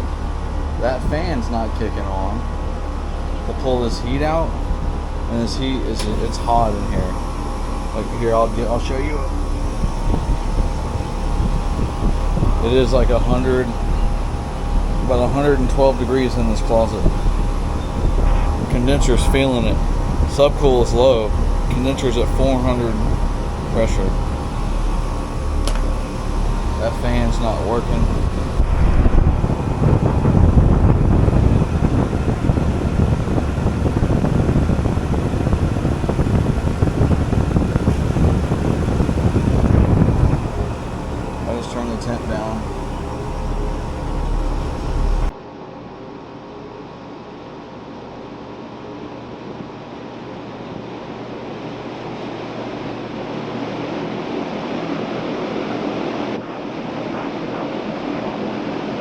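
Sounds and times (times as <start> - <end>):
air conditioning unit humming: 0.0 - 59.0
ventilation fan spinning up: 0.0 - 59.0.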